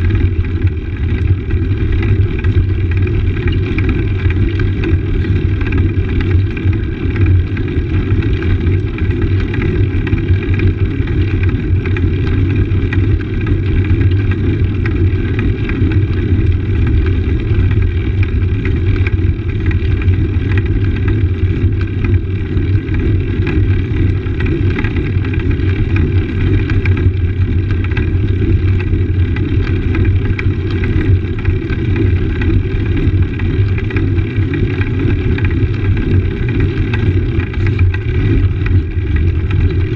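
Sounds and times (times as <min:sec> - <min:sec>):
bike tyres rumbling over stone: 0:00.0 - 0:39.9.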